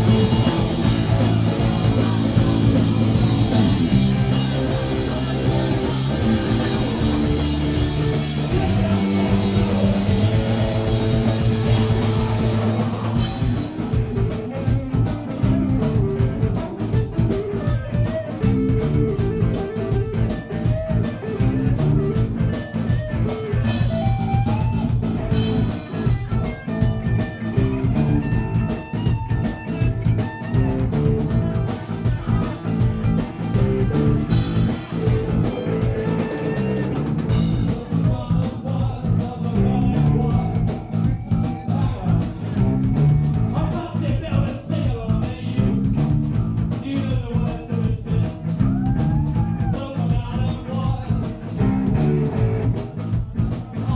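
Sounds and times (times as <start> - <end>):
drum kit beat: 0.0 - 53.9
electric guitars: 0.0 - 53.9.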